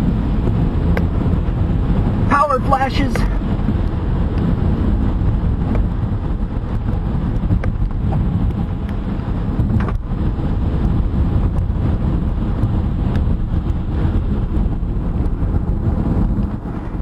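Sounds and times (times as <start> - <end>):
strong wind rumbling on microphone: 0.0 - 17.0.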